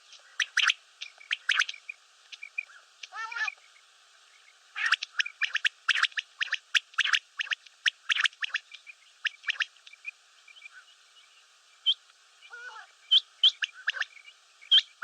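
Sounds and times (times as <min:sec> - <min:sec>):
quail calling: 0:00.1 - 0:03.6, 0:04.8 - 0:11.0, 0:11.9 - 0:15.0.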